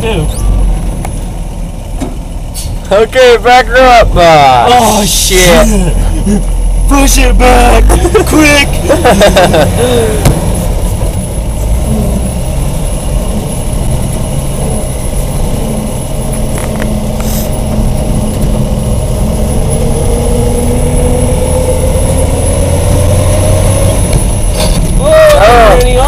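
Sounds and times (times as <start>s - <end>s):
truck engine drone with whine: 0.0s - 26.0s.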